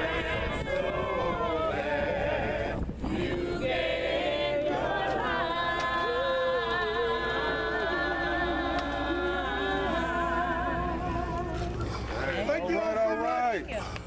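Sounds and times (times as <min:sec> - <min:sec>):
group singing a cappella: 0:00.0 - 0:12.5.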